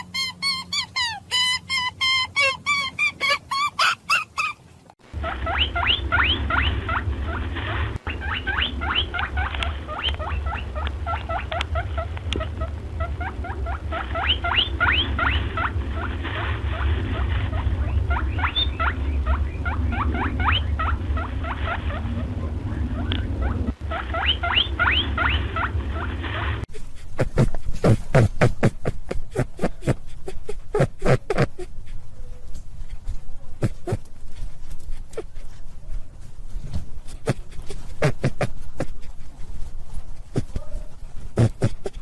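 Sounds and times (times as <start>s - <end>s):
rabbits squeaking: 0.0s - 33.0s, 33.6s - 42.0s
steady low hum: 4.7s - 42.0s.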